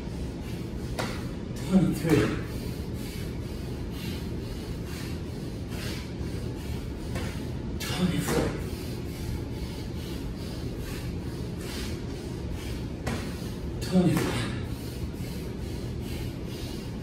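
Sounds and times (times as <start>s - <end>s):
man breathing hard: 0.0s - 17.0s
steady low hum: 0.0s - 17.0s.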